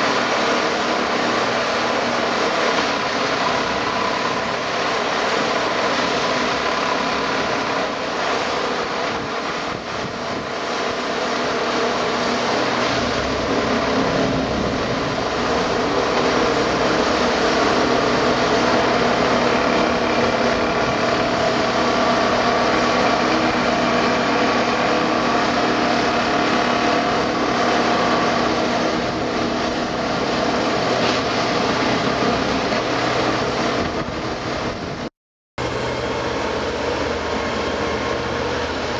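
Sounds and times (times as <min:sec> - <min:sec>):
diesel engine and hydraulics: 0:00.0 - 0:38.9.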